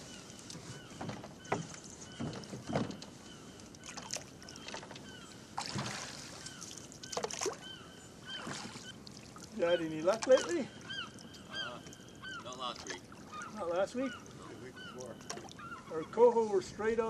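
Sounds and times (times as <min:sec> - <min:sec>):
oars splashing and knocking: 0:00.1 - 0:14.2, 0:14.8 - 0:15.8.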